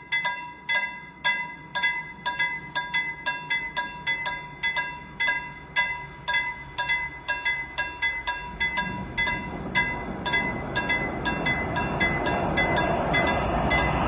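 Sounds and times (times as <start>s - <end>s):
level crossing bell ringing: 0.0s - 14.0s
train rumble: 0.0s - 14.0s.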